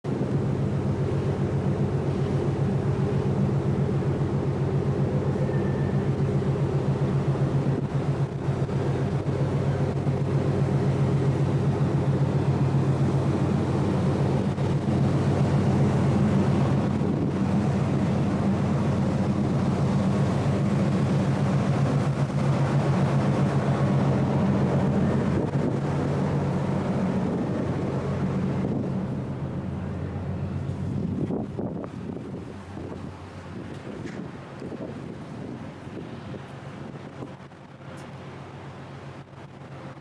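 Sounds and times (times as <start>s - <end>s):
ship engine droning: 0.1s - 40.0s.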